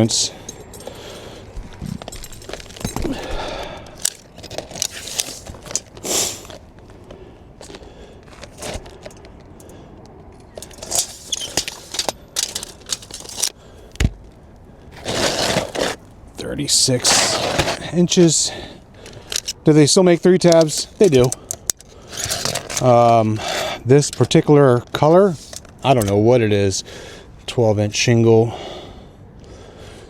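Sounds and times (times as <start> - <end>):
asphalt shingle rustling: 0.0 - 27.5.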